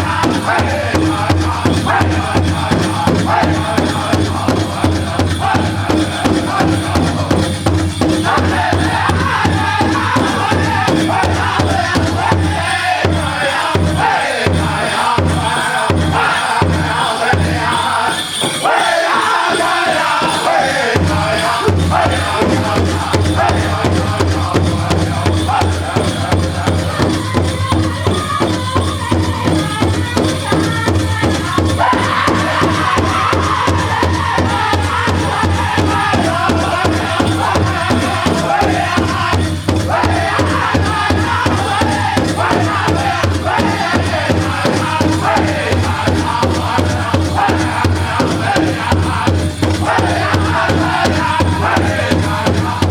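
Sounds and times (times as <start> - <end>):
big drum fast beat: 0.0 - 52.9
drum group singing: 0.0 - 52.9.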